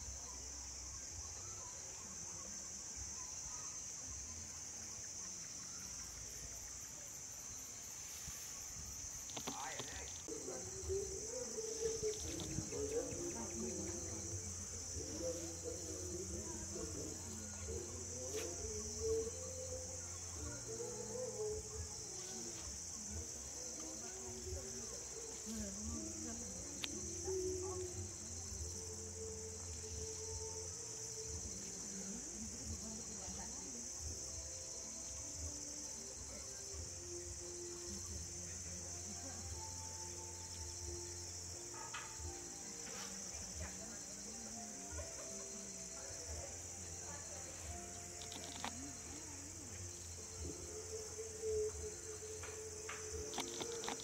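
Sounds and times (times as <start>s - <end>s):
crickets chirping: 0.0s - 54.0s
high-pitched insect chorus: 0.0s - 54.0s.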